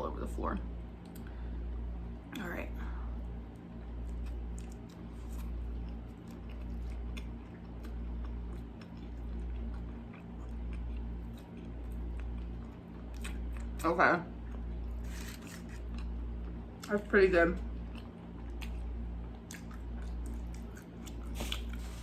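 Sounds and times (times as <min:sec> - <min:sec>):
low hum: 0:00.0 - 0:22.0
close-miked chewing: 0:03.5 - 0:17.0, 0:17.6 - 0:22.0.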